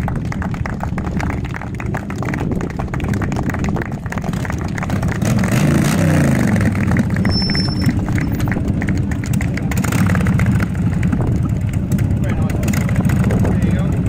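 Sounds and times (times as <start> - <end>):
motorcycle engine revving: 1.2 - 14.0.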